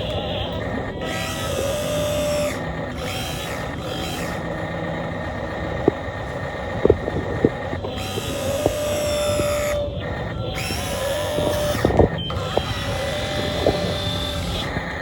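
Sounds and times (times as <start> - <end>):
hydraulic pump whining: 0.0 - 15.0
sharp clicks: 2.4 - 15.0.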